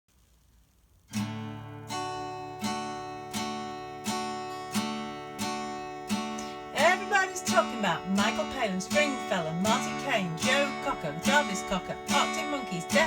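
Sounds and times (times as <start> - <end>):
acoustic guitar strumming: 1.0 - 13.0.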